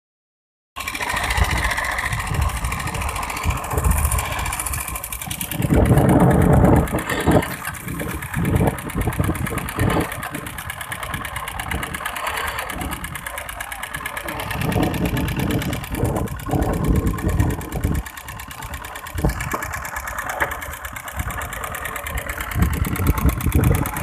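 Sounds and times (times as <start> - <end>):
boat engine running: 0.8 - 24.0.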